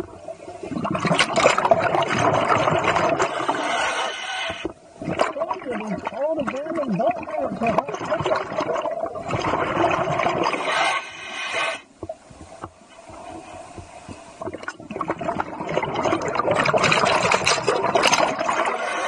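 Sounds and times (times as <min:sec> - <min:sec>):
underwater bubbles gurgling: 0:00.0 - 0:19.0.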